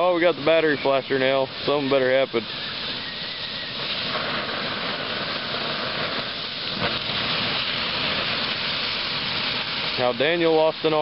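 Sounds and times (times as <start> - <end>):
fire crackle: 0.0 - 11.0
log fire hissing: 0.0 - 11.0.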